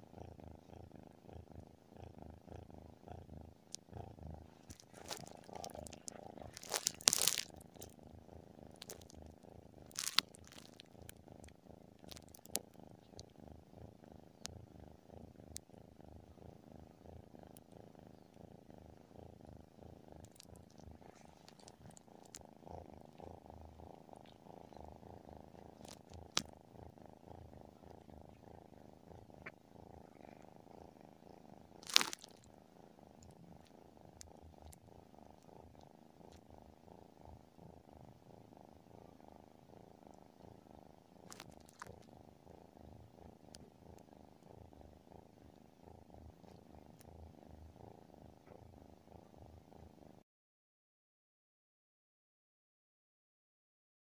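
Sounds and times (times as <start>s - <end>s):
cat purring softly: 0.0s - 50.2s.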